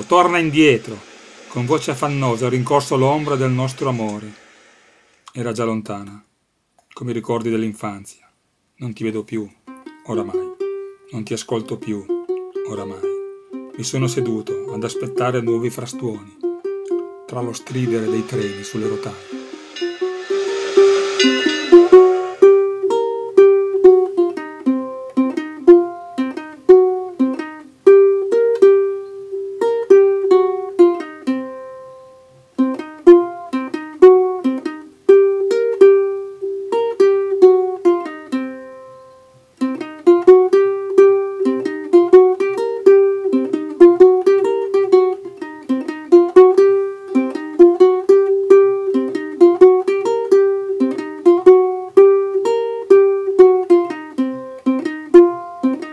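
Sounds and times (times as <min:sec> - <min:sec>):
plucked string instrument melody: 0:00.0 - 0:04.3, 0:09.6 - 0:55.9.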